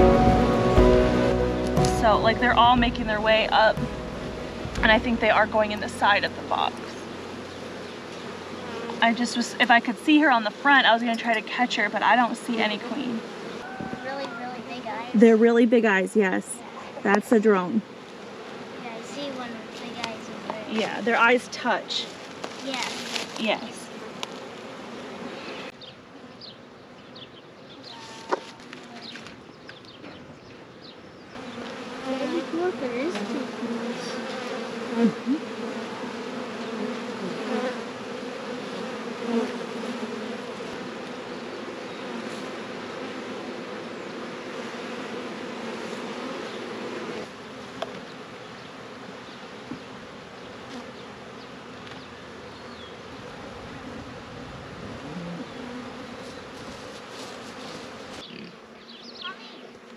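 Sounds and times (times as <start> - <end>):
bee swarm buzzing: 0.0 - 26.4, 31.3 - 59.9.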